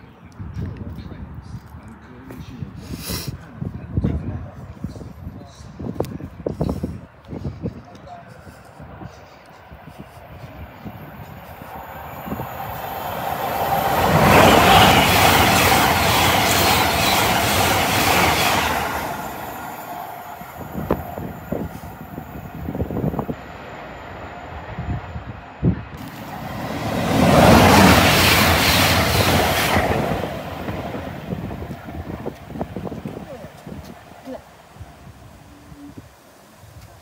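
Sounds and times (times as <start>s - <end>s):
train passing at speed: 3.5s - 37.0s.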